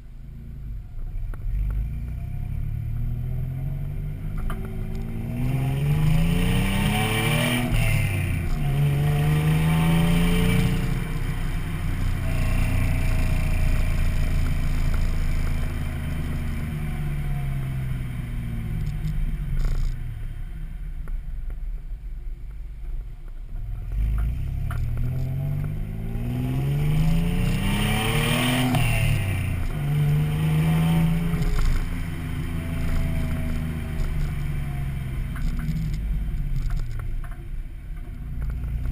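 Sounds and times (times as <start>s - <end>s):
car engine exhaust accelerating: 0.0s - 38.9s.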